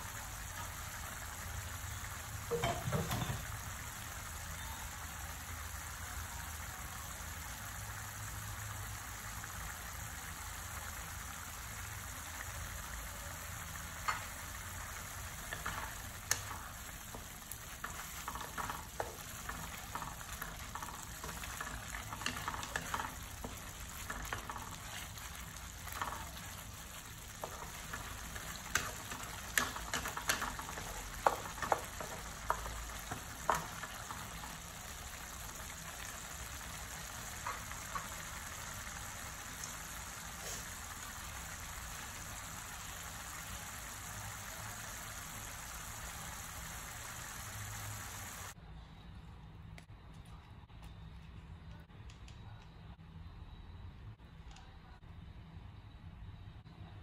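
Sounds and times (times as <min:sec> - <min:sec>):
sauce bubbling in a pan: 0:00.0 - 0:48.6.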